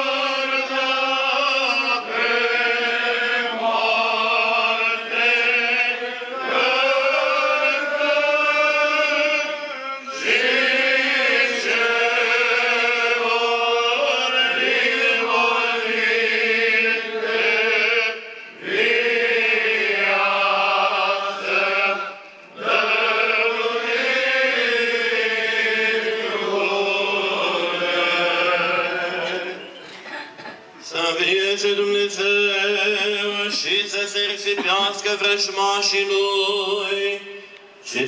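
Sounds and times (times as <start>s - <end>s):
liturgical chant: 0.0s - 38.0s.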